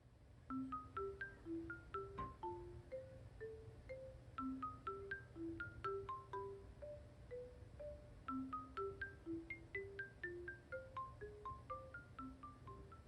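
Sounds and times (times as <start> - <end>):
mallet percussion melody: 0.5 - 13.0.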